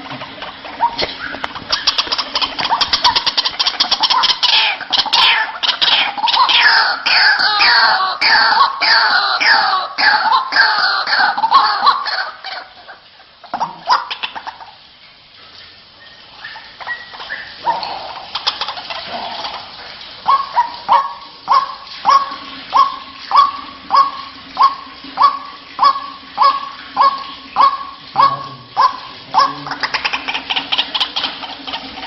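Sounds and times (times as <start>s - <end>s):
waterhen calling: 0.0s - 32.0s.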